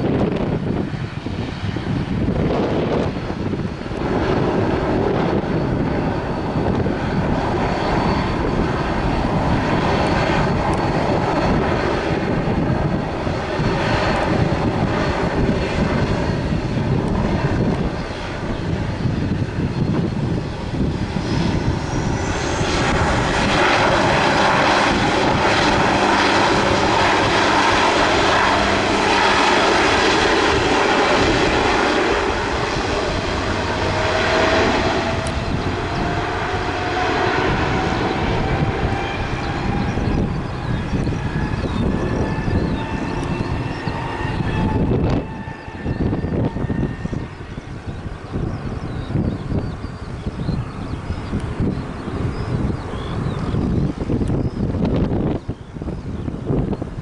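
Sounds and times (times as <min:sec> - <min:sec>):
airliner engine noise: 0:00.0 - 0:57.0
wind rumbling on microphone: 0:00.0 - 0:57.0
high whine rising in pitch: 0:02.2 - 0:50.5.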